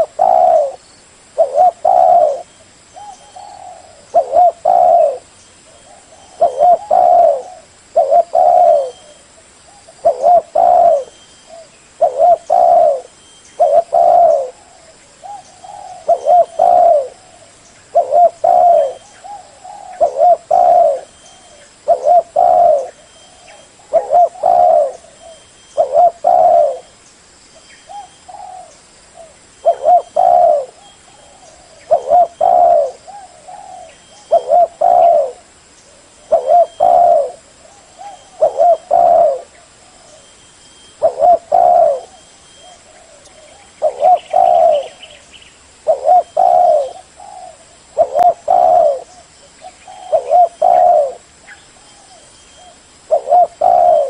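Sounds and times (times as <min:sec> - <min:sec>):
dove cooing: 0:00.0 - 0:26.9, 0:27.8 - 0:45.2, 0:45.8 - 0:54.0.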